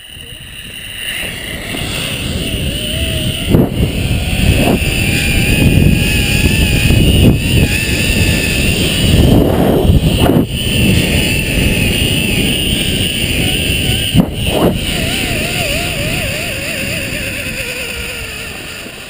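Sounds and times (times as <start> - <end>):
trolley pulleys whining on cable: 0.0 - 19.0
wind rush on microphone: 0.0 - 19.0.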